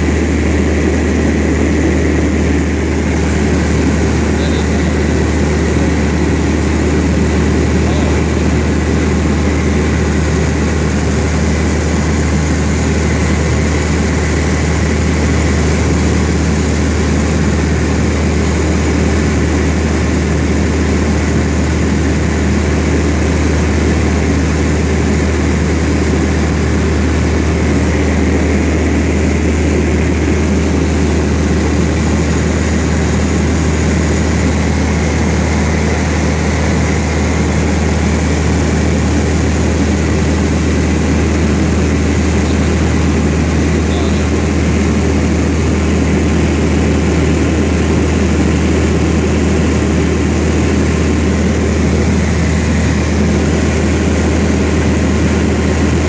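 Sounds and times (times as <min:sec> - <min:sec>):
propeller airplane engine drone: 0:00.0 - 0:56.0.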